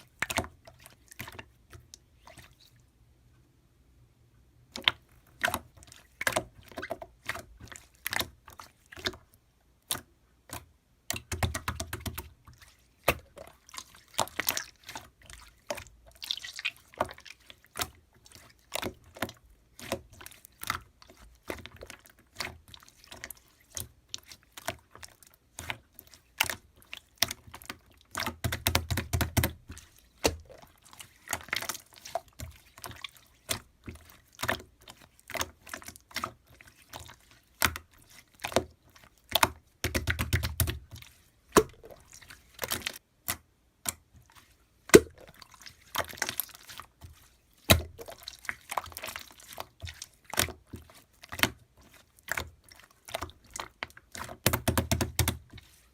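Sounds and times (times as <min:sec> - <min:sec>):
rapid crackling of slime: 0:04.8 - 0:55.9.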